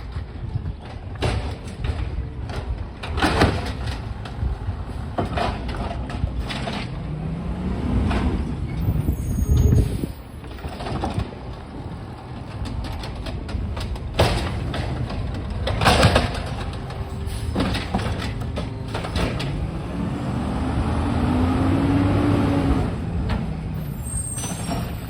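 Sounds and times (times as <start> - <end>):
truck engine rumble: 0.0 - 25.0.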